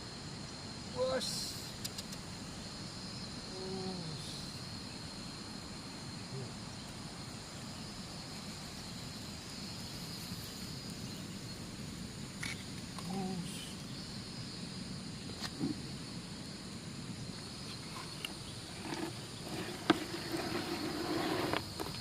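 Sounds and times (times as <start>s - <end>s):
background hiss: 0.0s - 22.0s
insects droning: 0.0s - 22.0s.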